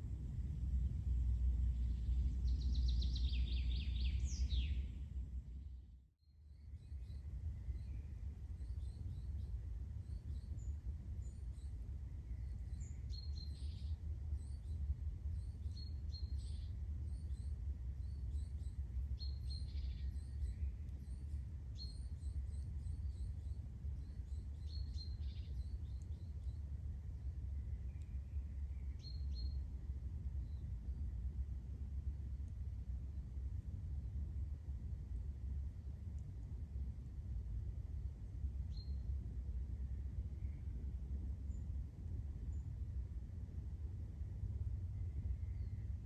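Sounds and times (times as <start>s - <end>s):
low rumble: 0.0s - 46.0s.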